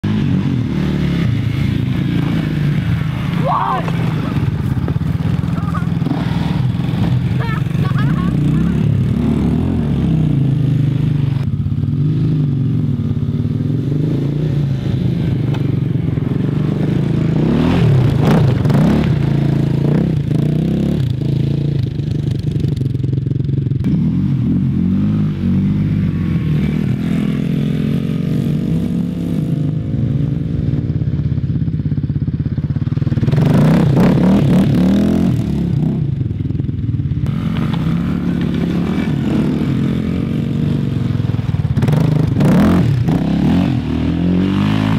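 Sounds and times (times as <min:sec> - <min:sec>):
quad bike engine revving: 0:00.0 - 0:44.9.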